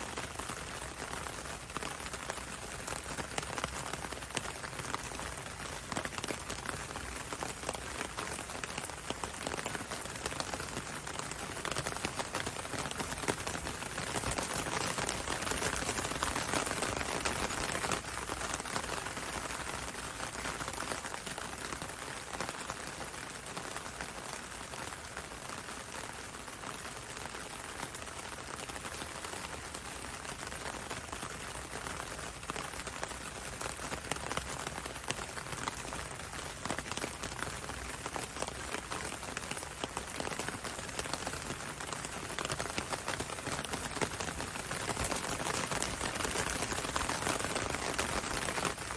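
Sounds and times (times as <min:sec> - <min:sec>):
raindrops ticking: 0:00.0 - 0:25.7, 0:26.5 - 0:48.9
rain on window and road: 0:00.0 - 0:48.9.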